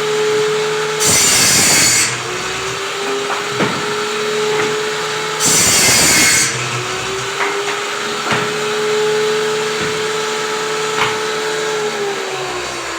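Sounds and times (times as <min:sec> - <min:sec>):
power saw cutting plywood: 0:00.0 - 0:12.9.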